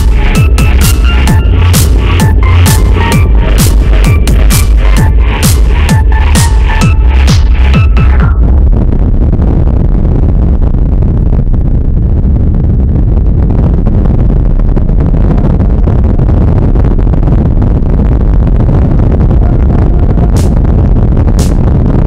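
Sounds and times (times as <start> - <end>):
road rumble: 0.0 - 22.0
wind buffeting microphone: 0.0 - 22.0.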